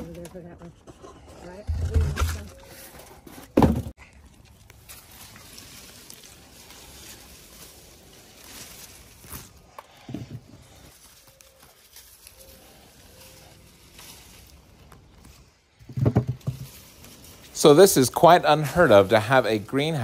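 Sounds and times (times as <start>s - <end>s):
leaves and branches rustling: 1.4s - 20.0s.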